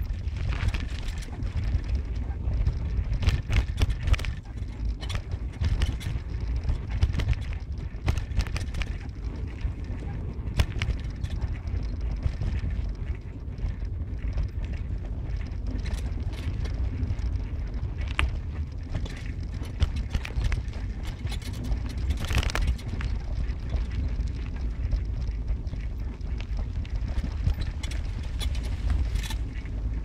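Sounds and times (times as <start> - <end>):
car road and engine rumble: 0.0 - 30.0
light knocks and rattles: 0.0 - 30.0.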